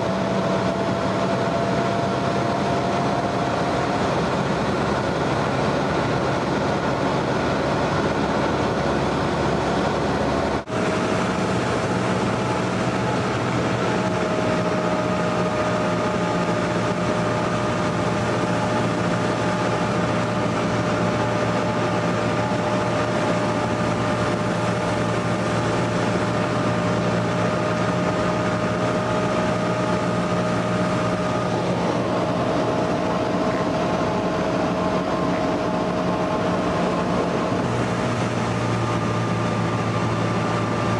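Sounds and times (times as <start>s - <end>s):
airplane engine droning in cabin: 0.0s - 40.9s.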